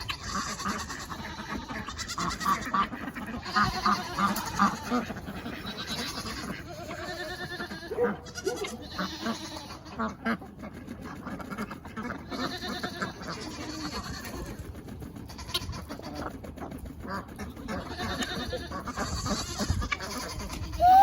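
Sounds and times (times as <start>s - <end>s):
chickens and ducks calling: 0.0s - 21.0s.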